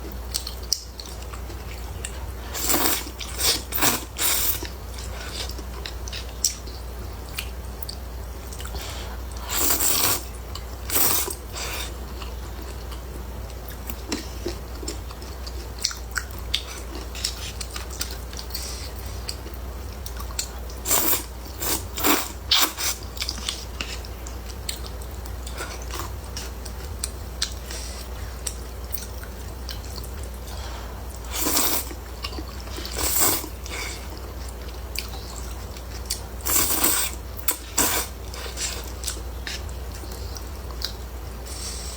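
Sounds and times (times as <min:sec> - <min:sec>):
steady low hum: 0:00.0 - 0:41.9
chewing noodles: 0:00.1 - 0:41.0.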